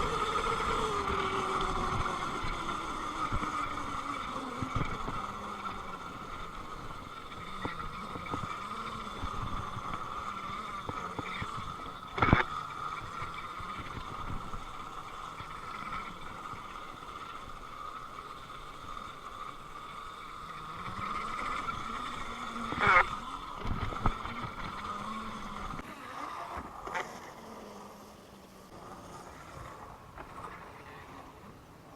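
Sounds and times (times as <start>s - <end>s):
electric dirt bike motor whine: 0.0s - 31.9s.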